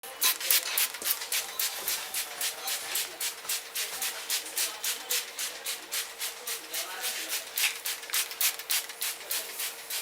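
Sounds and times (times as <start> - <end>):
fingers scratching through hair: 0.4 - 10.0.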